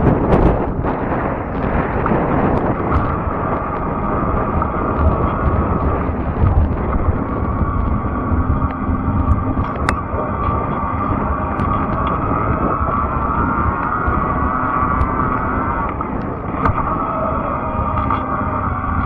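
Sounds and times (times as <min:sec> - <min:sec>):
steady high whine: 0:00.0 - 0:19.0
wind buffeting the microphone: 0:00.0 - 0:19.0.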